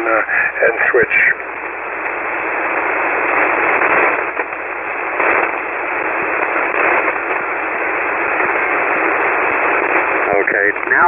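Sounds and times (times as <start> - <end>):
faint radio crackles: 0.0 - 11.0
radio static hiss: 0.0 - 11.0.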